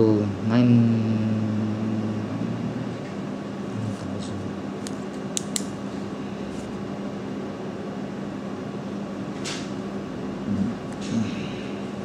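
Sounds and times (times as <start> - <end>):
air conditioning hum: 0.0 - 12.0.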